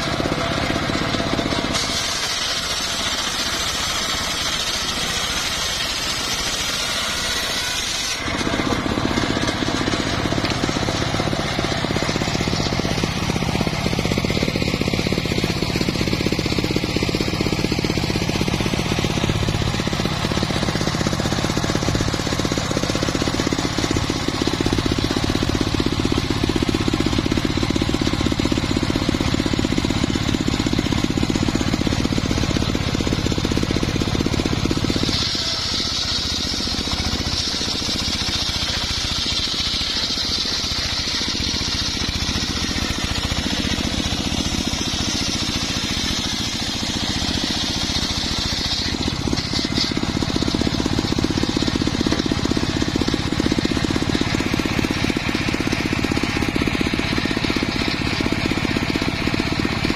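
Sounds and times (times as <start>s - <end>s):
saw blade ripping through wood: 0.0s - 59.9s
sawmill engine rattling: 0.0s - 59.9s.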